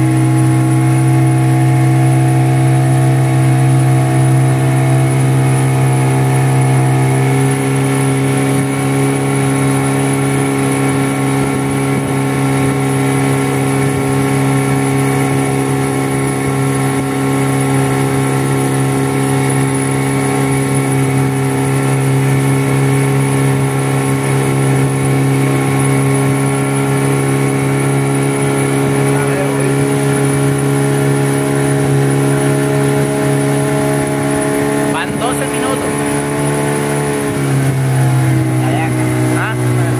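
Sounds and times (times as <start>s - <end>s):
boat motor droning: 0.0s - 39.9s.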